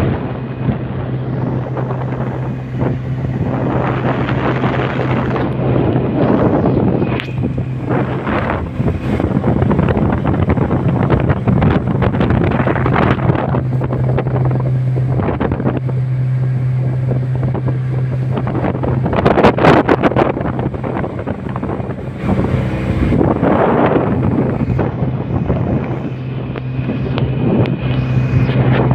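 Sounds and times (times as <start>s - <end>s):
motorboat engine humming: 0.0s - 28.9s
rushing water: 0.0s - 28.9s
wind buffeting microphone: 0.0s - 28.9s.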